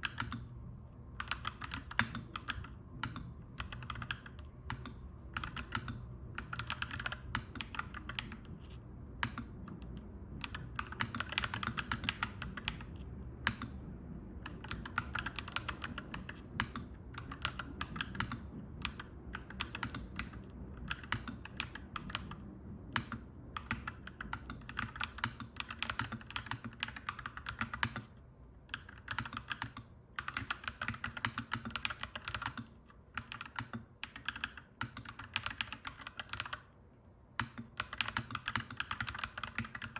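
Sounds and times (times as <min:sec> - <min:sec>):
mechanical keyboard typing: 0:00.0 - 0:00.5, 0:01.2 - 0:13.8, 0:14.4 - 0:36.7, 0:37.4 - 0:39.9
low background rumble: 0:00.0 - 0:39.9.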